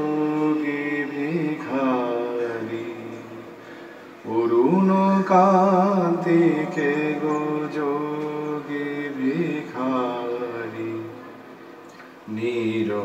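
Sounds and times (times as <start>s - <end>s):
man singing wordless melody: 0.0s - 3.6s, 4.2s - 11.4s, 12.2s - 13.0s.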